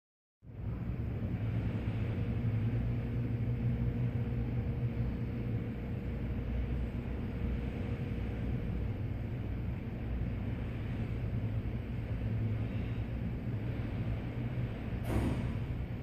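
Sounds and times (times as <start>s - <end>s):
boat engine droning: 0.5s - 16.0s.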